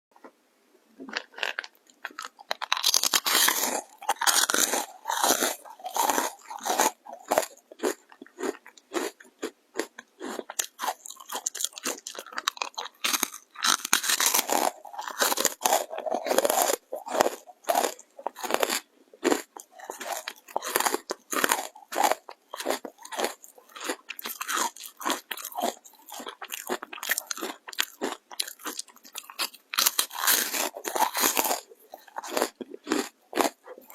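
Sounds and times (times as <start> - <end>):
dry chips crunching: 1.0 - 33.9.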